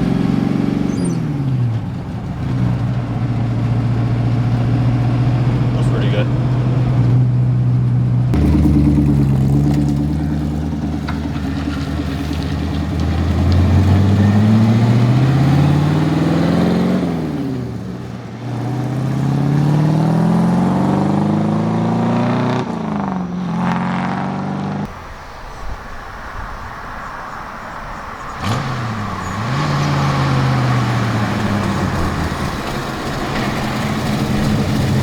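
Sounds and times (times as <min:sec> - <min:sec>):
car engine accelerating hard: 0:00.0 - 0:25.0, 0:26.3 - 0:35.0.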